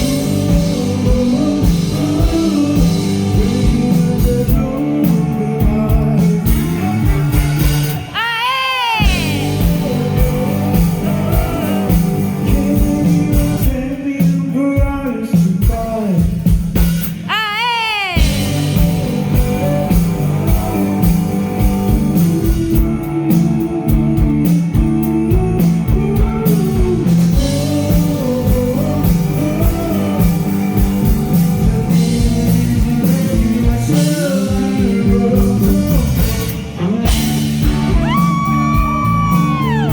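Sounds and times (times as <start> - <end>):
person singing: 0.0 - 16.2, 17.2 - 39.9
live rock band playing: 0.0 - 39.9.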